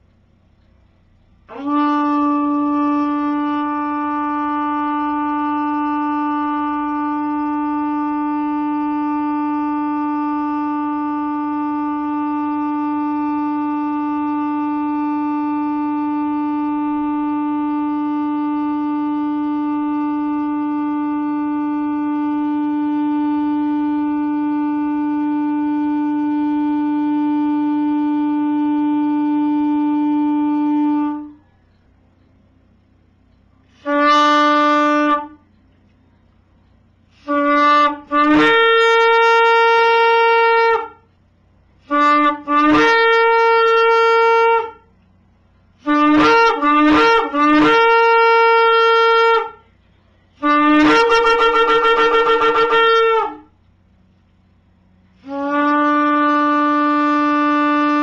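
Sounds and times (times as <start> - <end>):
shofar long note: 1.4 - 31.6, 33.6 - 35.5, 37.0 - 45.0, 45.6 - 53.6, 54.9 - 58.0.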